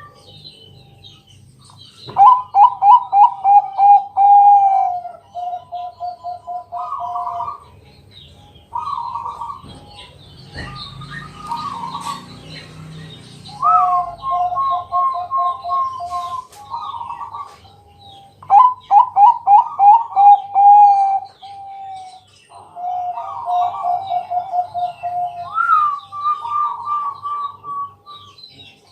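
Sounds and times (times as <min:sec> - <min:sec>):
dove cooing with staccato trills: 0:00.0 - 0:28.9
high chirps of small birds: 0:00.0 - 0:28.9.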